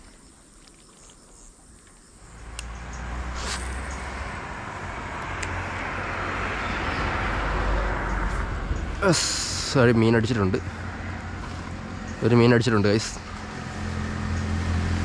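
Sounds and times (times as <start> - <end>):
road traffic rumble: 2.1 - 15.0.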